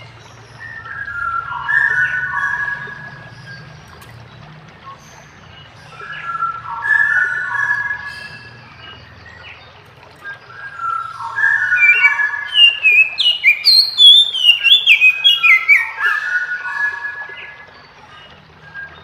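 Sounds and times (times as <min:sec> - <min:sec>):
bird singing whistled notes: 0:00.0 - 0:03.8, 0:04.9 - 0:09.5, 0:10.2 - 0:17.7.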